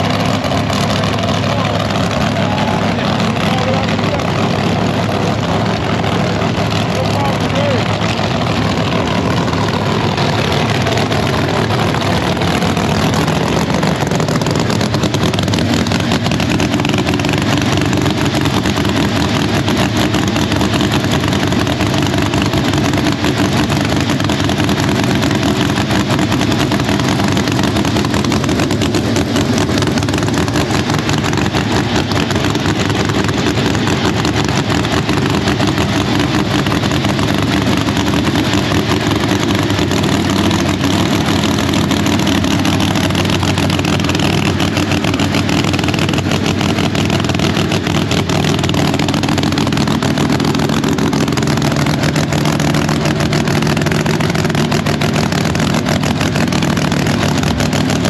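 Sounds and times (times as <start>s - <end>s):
race car engine idling loudly: 0.0s - 58.0s.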